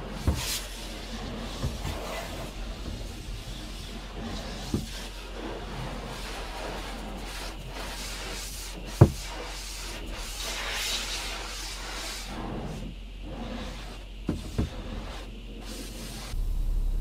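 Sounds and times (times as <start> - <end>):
water spraying on windshield: 0.0 - 16.4.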